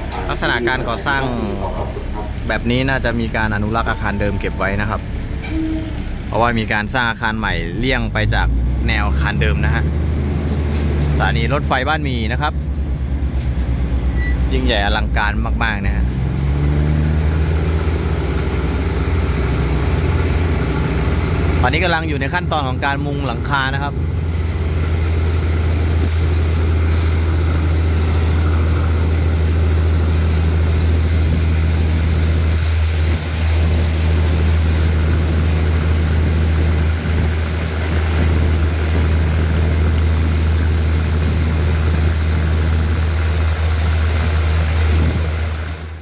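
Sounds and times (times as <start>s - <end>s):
diesel train engine hum: 0.0s - 46.0s.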